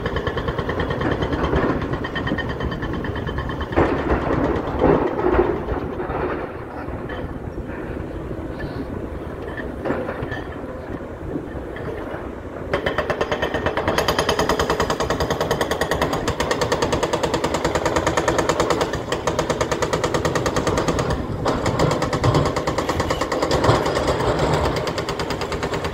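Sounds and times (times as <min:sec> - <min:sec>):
hydraulic breaker hammering rock: 0:00.0 - 0:07.8, 0:11.6 - 0:25.9.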